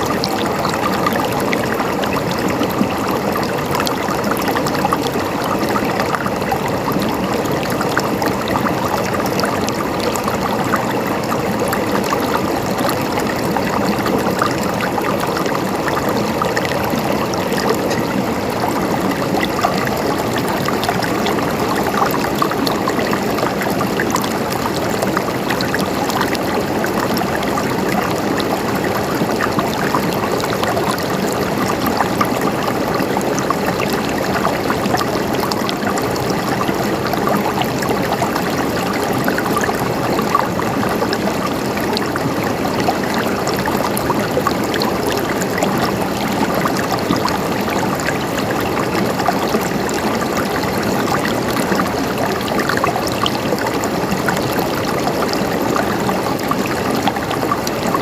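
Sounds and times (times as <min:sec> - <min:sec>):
water trickling over stones: 0:00.0 - 0:58.0.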